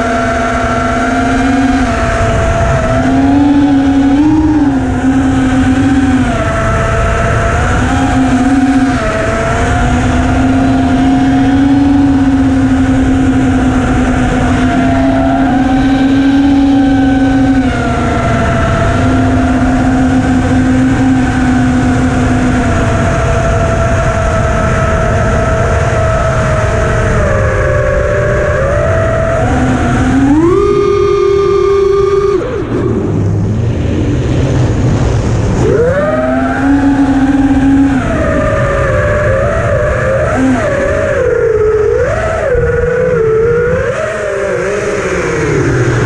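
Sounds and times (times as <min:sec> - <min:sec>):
quadcopter motors whining: 0:00.0 - 0:46.0
wind rush on microphone: 0:00.0 - 0:46.0.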